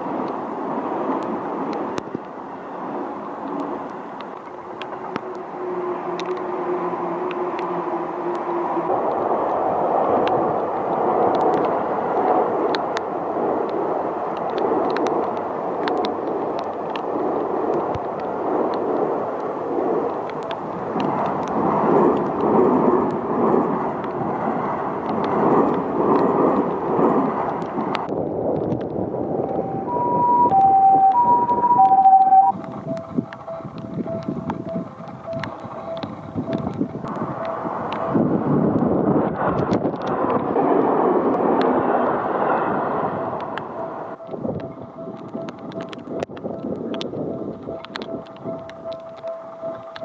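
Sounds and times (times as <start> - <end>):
raindrops ticking near microphone: 0.0 - 29.8, 32.5 - 42.2, 43.2 - 50.0
wind: 0.0 - 50.0.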